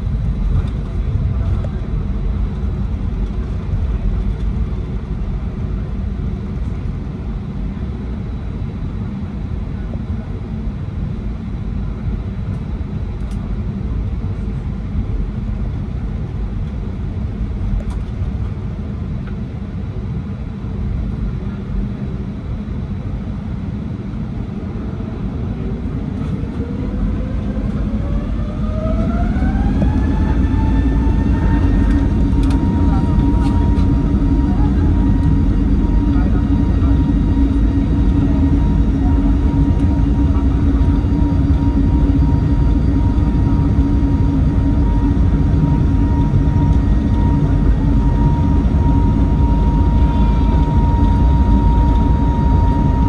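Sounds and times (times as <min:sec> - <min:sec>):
jet engine rumble: 0:00.0 - 0:53.0
jet engine whine rising: 0:00.0 - 0:53.0.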